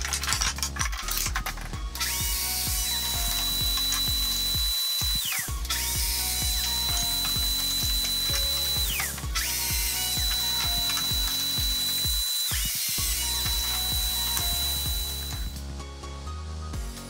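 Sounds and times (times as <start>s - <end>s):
joiner motor whining: 0.0s - 15.6s
background music: 0.0s - 17.0s.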